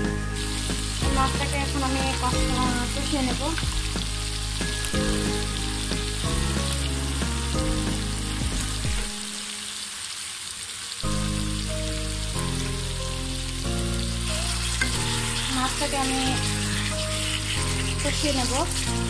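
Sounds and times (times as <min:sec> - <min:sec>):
background music: 0:00.0 - 0:09.8, 0:11.0 - 0:19.0
fish sizzling in oil: 0:00.0 - 0:19.0.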